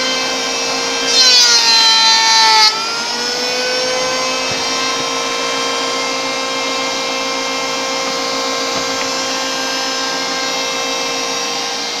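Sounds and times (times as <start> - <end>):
electric planer motor whining: 0.0 - 12.0.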